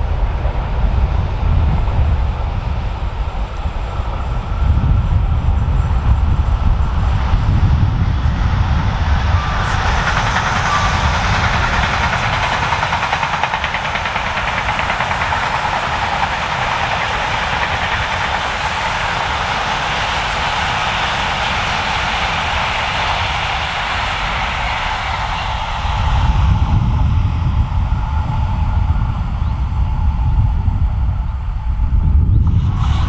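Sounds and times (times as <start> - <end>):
train passing with rumble: 0.0 - 33.0
wheel and rail noise: 0.0 - 33.0.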